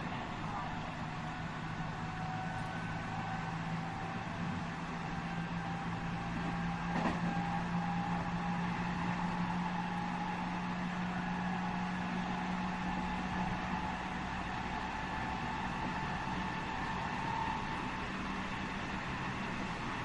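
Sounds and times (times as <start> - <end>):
train motor hum and whine: 0.0 - 20.0.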